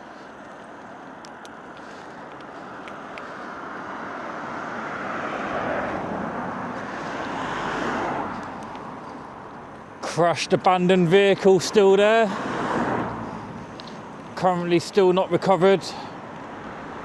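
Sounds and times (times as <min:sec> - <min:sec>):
passing road traffic: 0:00.0 - 0:17.0.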